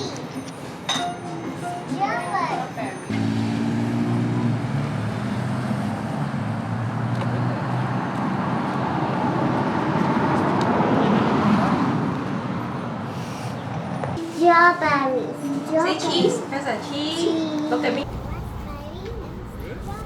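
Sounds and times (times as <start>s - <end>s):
vehicle engine humming: 2.9s - 13.1s, 13.7s - 20.0s.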